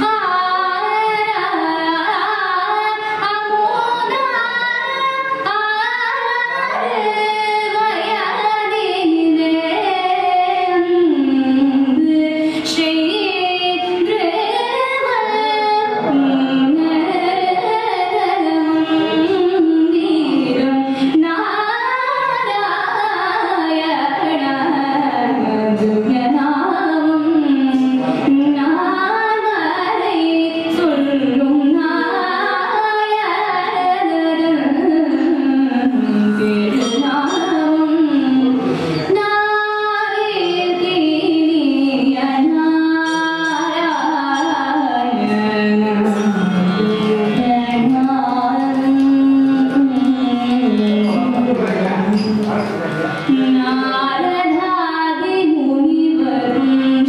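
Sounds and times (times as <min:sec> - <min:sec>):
woman singing into microphone: 0:00.0 - 0:57.0.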